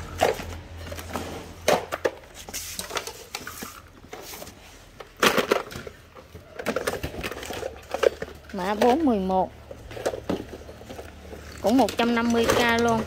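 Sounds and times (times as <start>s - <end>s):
plastic chargers knocking and clattering: 0.0s - 4.2s, 4.9s - 13.0s.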